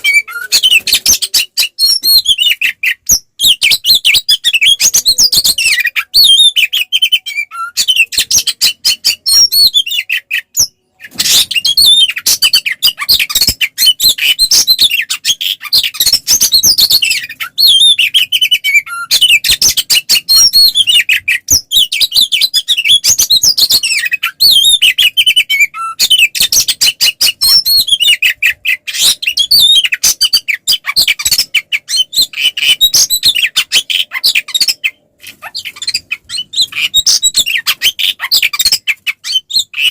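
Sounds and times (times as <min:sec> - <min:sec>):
bird singing loudly: 0:00.0 - 0:39.9.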